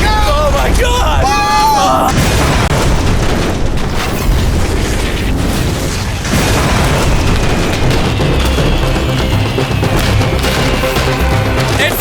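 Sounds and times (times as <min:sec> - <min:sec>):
fireworks barrage of bangs and pops: 0:00.0 - 0:12.0
deep firework booms: 0:02.1 - 0:12.0.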